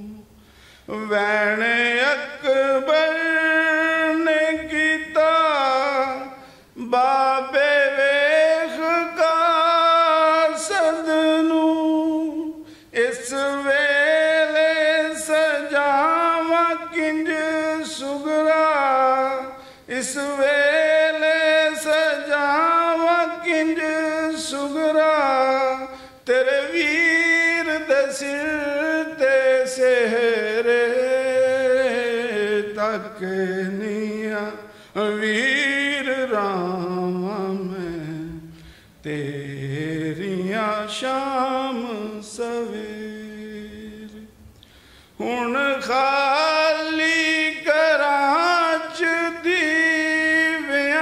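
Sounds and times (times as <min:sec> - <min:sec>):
man chanting: 0:00.0 - 0:44.4, 0:45.2 - 0:51.0.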